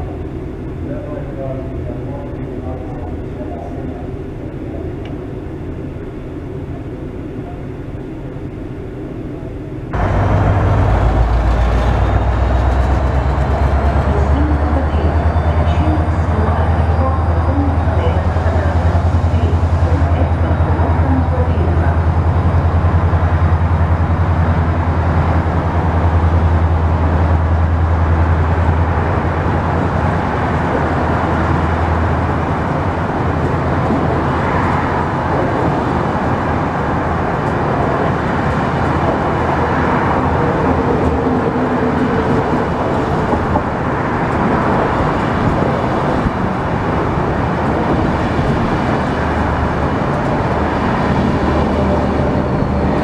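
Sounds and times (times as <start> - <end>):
diesel locomotive engine drone: 0.0 - 53.0
train coaches rolling over rails: 9.9 - 53.0.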